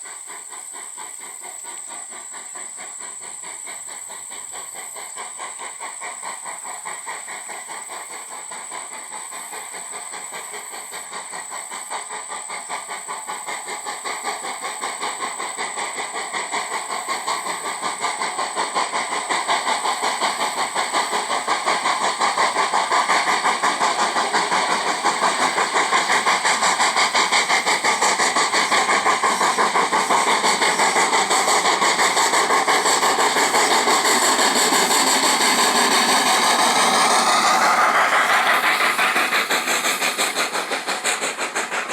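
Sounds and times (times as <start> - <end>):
steam locomotive chuffing: 0.0 - 41.9.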